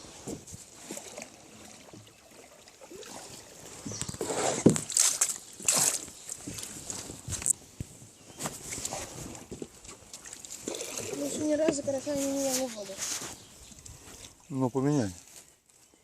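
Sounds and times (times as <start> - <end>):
water splashing and sloshing: 0.0 - 15.4.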